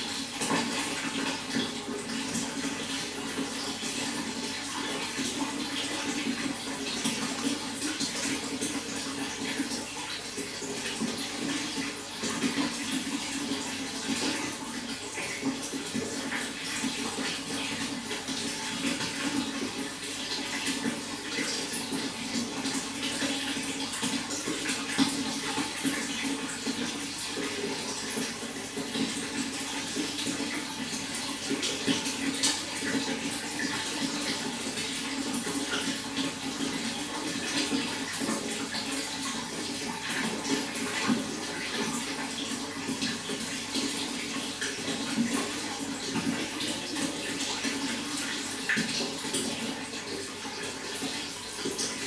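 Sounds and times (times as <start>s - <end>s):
running water pouring and splashing: 0.0s - 52.0s.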